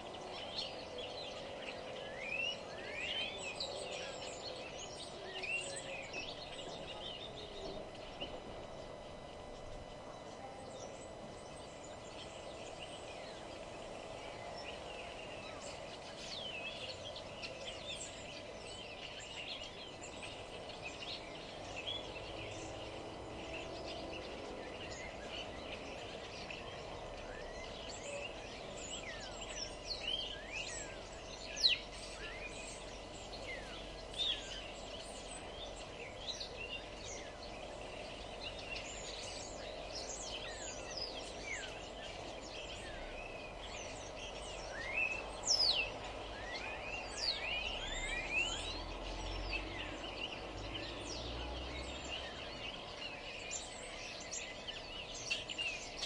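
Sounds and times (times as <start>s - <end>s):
low background hum: 0.0s - 56.0s
songbirds chirping and singing: 0.0s - 56.0s.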